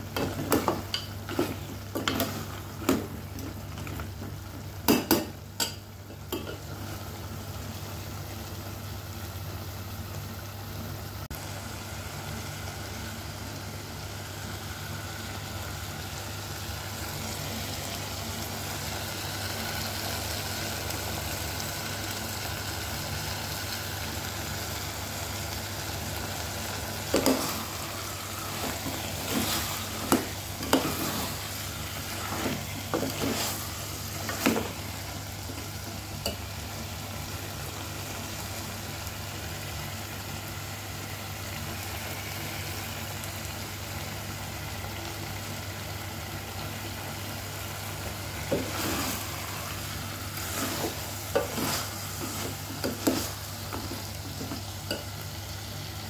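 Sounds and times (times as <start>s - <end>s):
meat and gravy sizzling in pot: 0.0s - 56.0s.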